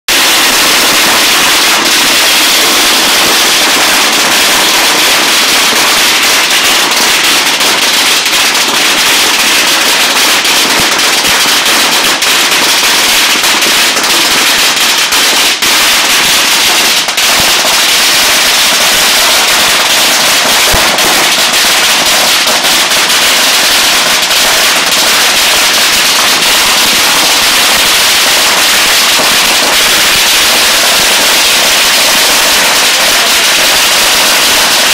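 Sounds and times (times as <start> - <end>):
firecrackers crackling: 0.0 - 34.9.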